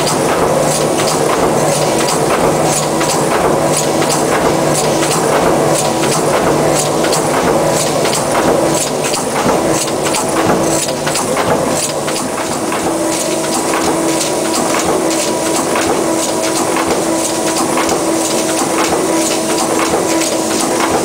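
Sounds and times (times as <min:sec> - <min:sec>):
clatter of clicks and knocks: 0:00.0 - 0:21.0
mechanical press humming: 0:00.0 - 0:21.0.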